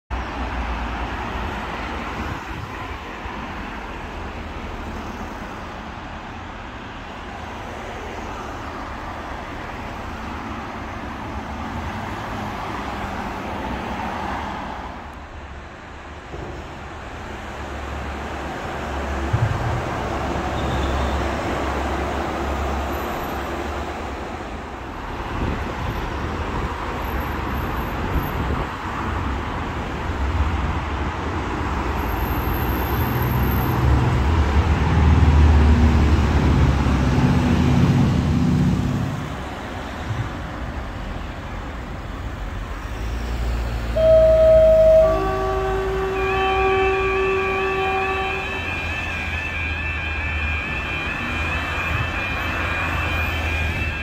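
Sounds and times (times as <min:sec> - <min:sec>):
cars driving past: 0:00.1 - 0:54.0.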